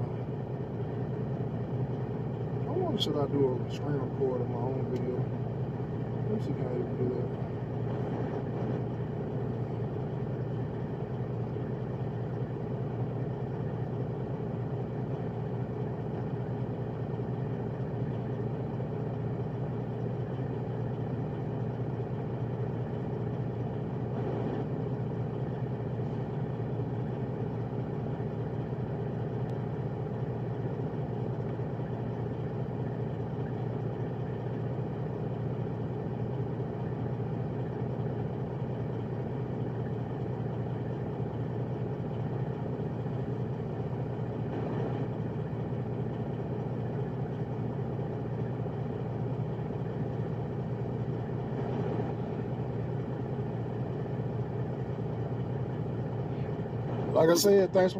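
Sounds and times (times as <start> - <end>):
diesel truck engine idling: 0.0 - 57.9.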